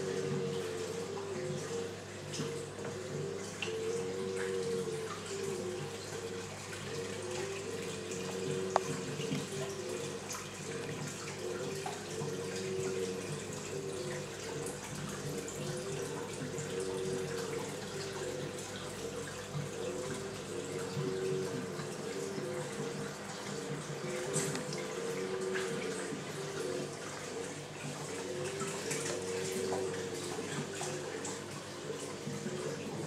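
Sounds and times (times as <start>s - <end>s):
water running and trickling: 0.0s - 33.0s.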